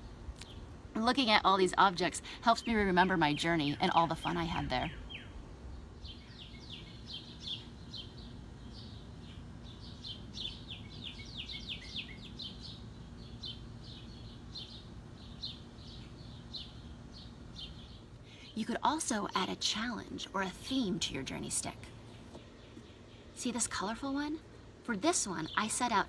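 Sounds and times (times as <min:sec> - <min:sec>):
faint low hum: 0:00.0 - 0:26.0
small songbirds chirping: 0:00.0 - 0:26.0.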